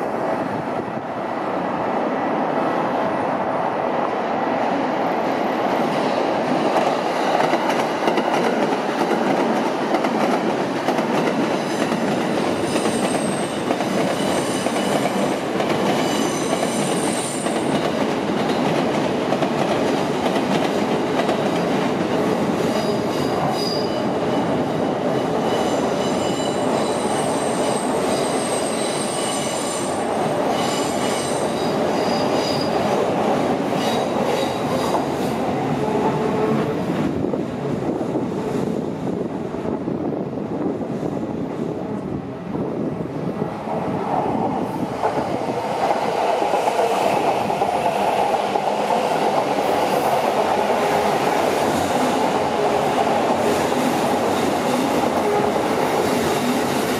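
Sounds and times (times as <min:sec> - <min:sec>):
train wheels rumbling on rail: 0:04.0 - 0:56.9.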